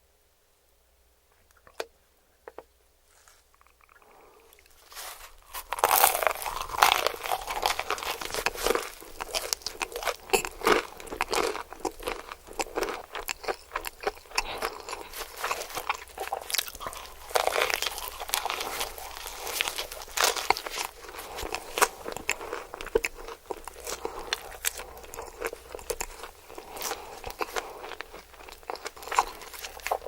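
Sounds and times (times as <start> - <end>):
crunchy chewing of fried chicken: 3.1 - 30.0.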